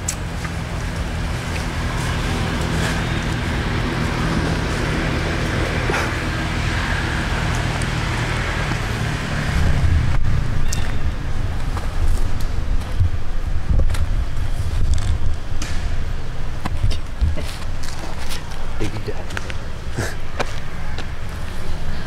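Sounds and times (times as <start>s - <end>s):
low motor hum: 0.0s - 22.0s
outdoor background noise: 0.0s - 22.0s.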